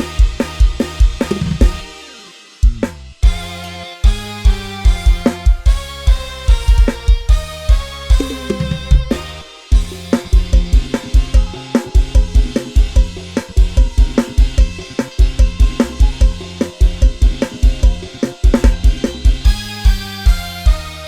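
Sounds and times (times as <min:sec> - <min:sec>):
sampled bass guitar: 0:00.0 - 0:01.9, 0:02.7 - 0:21.0
programmed drum kit beat: 0:00.0 - 0:21.0.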